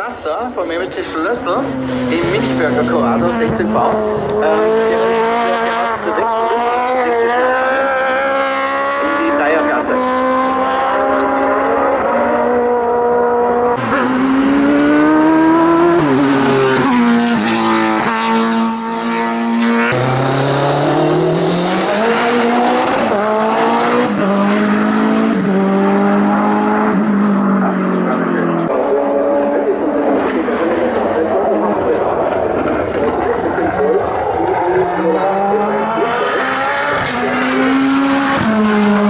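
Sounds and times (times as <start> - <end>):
race car engine accelerating: 0.8 - 39.0.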